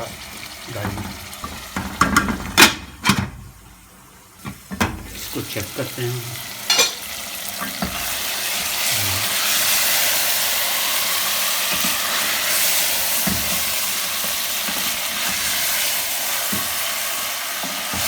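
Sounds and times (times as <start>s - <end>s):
meat sizzling in a pot: 0.0s - 18.0s.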